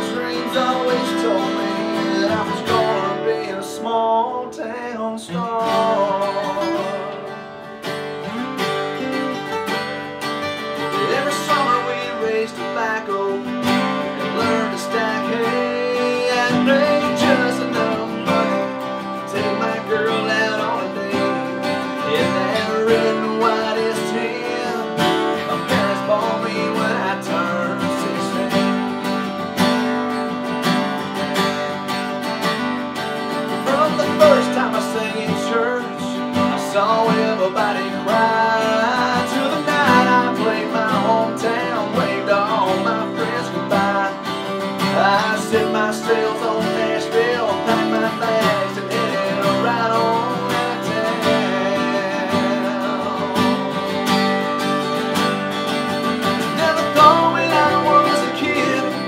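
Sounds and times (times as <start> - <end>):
picked guitar melody: 0.0 - 59.0
strummed acoustic guitar chords: 0.0 - 59.0.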